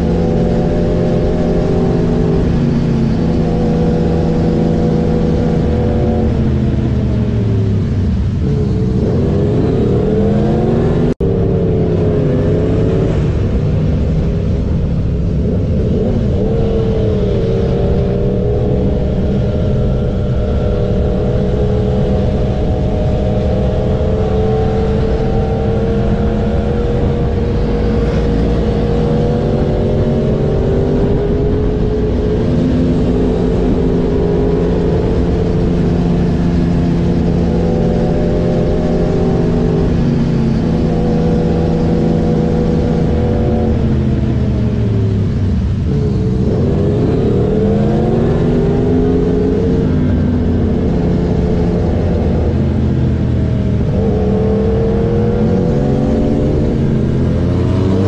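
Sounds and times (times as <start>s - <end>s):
motorcycle engine: 0.0s - 58.0s
wind rush: 0.0s - 58.0s.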